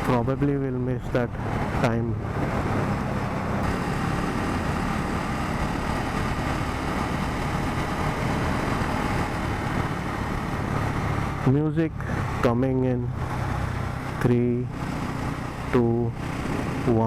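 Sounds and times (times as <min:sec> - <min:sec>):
motorcycle engine running: 0:00.0 - 0:17.0
rushing noise: 0:00.0 - 0:17.0.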